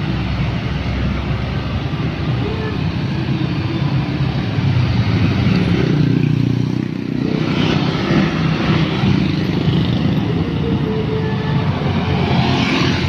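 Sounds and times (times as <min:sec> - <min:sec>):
car passing: 0:00.0 - 0:13.0
motorcycles and scooters passing: 0:00.0 - 0:13.0.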